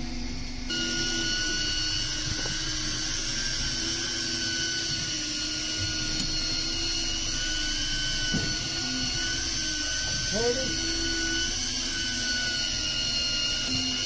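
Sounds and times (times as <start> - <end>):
fishing reel motor whining: 0.0 - 14.0.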